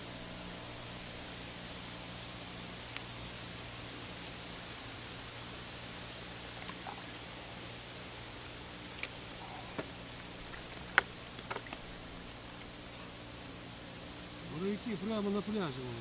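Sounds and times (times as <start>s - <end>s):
lake shore hiss: 0.0s - 16.0s.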